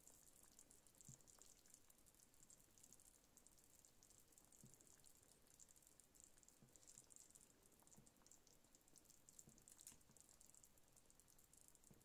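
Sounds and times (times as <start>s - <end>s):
soup simmering in a pot: 0.0s - 12.0s.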